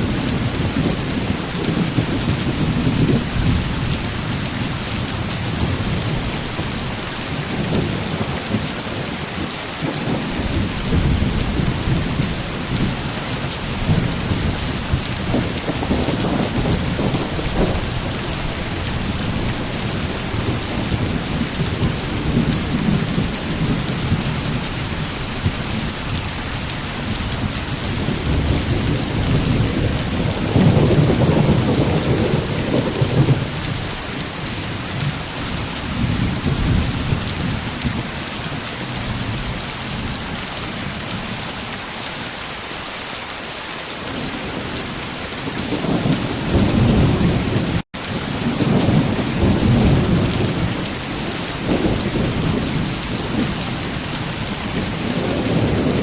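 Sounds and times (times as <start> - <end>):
rolling thunder: 0.0 - 9.1, 9.8 - 38.1, 44.1 - 56.0
heavy rain falling: 0.0 - 56.0.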